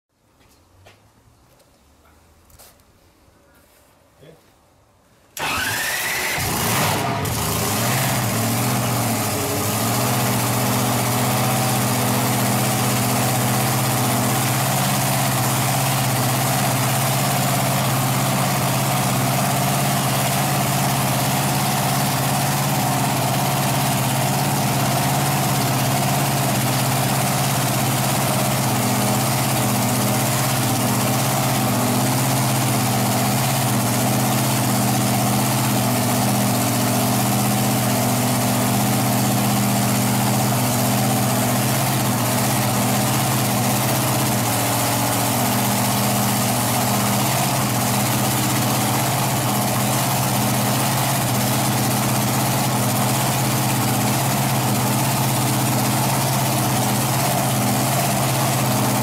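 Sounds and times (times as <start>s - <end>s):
dragster engine idling loud: 5.4s - 59.0s.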